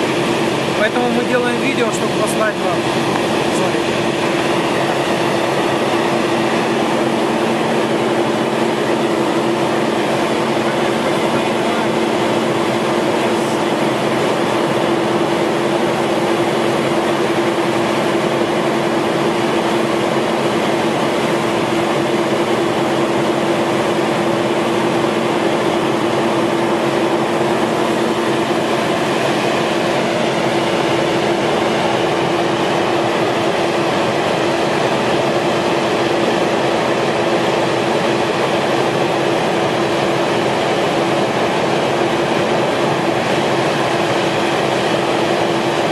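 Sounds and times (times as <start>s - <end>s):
drill rig droning: 0.0s - 45.9s.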